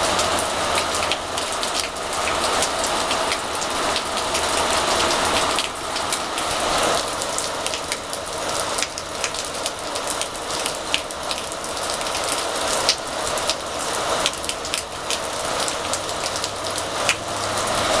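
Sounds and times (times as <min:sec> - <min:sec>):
raindrops ticking close by: 0:00.0 - 0:18.0
steady rain hiss: 0:00.0 - 0:18.0.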